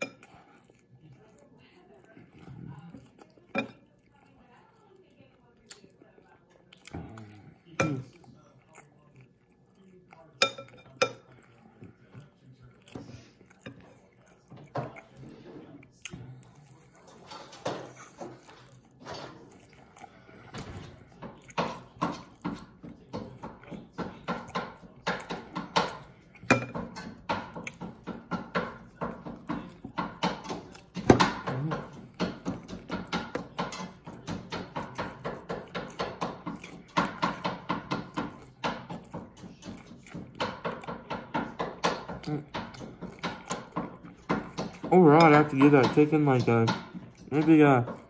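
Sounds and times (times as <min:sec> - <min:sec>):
crunchy chewing: 0:00.0 - 0:48.0.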